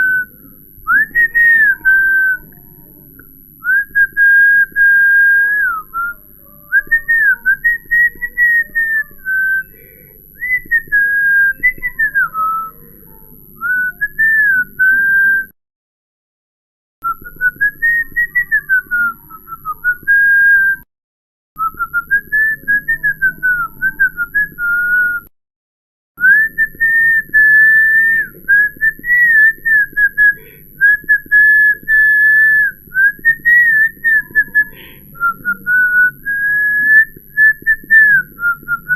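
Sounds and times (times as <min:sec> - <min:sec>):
person whistling a melody: 0:00.0 - 0:02.6, 0:03.6 - 0:12.8, 0:13.6 - 0:15.6, 0:17.0 - 0:20.9, 0:21.6 - 0:25.3, 0:26.2 - 0:38.9.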